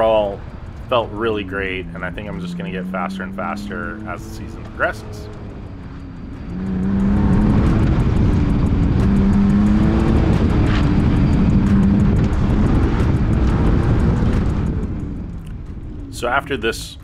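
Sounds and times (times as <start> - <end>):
car engine revving hard: 0.9 - 14.8.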